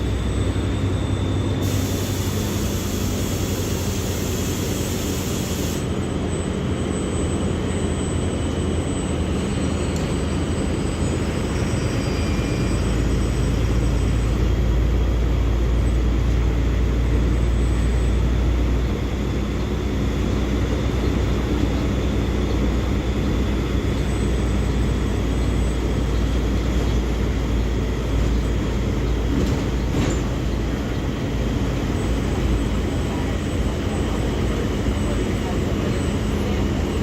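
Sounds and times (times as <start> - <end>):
bus diesel engine running: 0.0 - 37.0.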